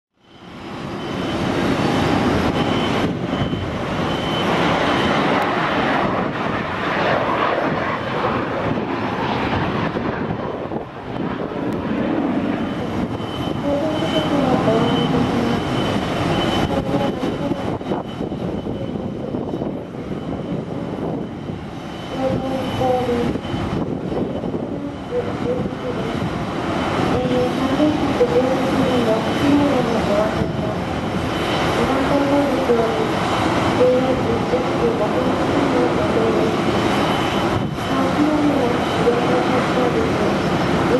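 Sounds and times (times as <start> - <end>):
helicopter engines and rotors: 0.2 - 40.9.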